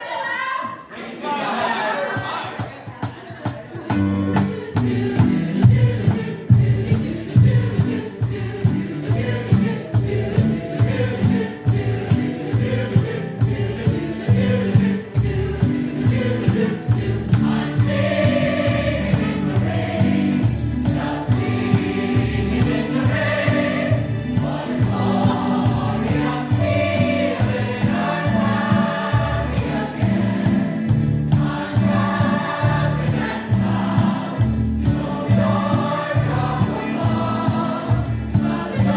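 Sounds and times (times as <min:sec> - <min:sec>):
group singing: 0:00.0 - 0:38.9
instrumental music with beat: 0:02.6 - 0:38.9.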